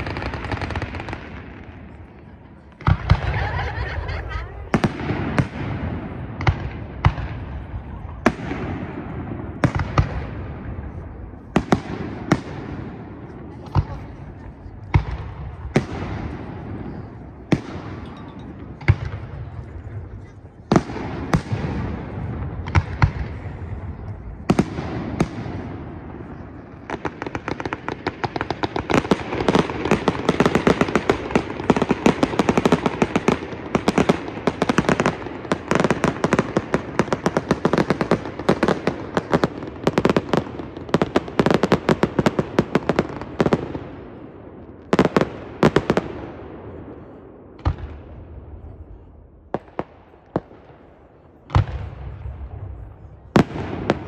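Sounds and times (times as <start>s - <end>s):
fireworks bangs and booms: 0.0s - 54.0s.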